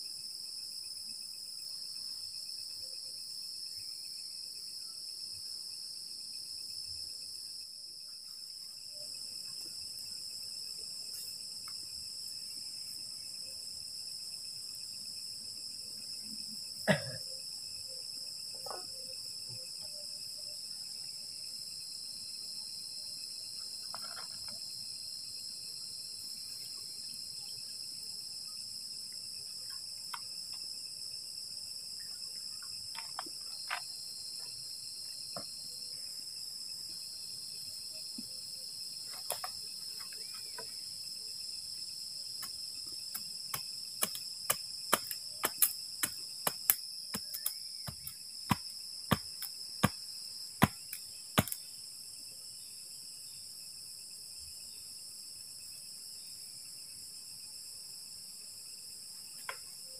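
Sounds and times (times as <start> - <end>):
crickets and insects chirring: 0.0 - 59.9.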